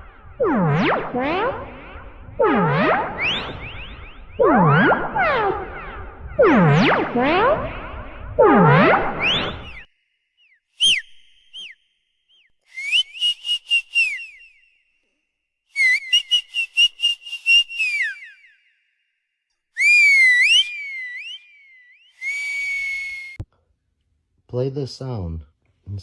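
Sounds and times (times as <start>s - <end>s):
high-pitched whistling: 0.0s - 14.9s, 15.7s - 19.0s, 19.8s - 23.4s.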